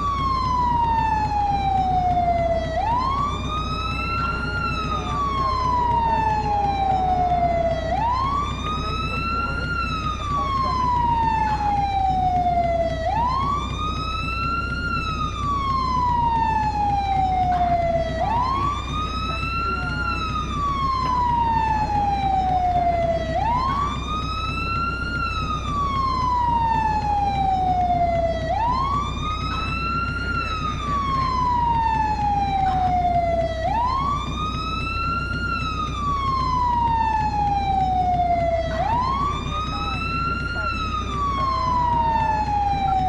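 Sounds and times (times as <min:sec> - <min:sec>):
fire truck siren wailing: 0:00.0 - 0:43.0.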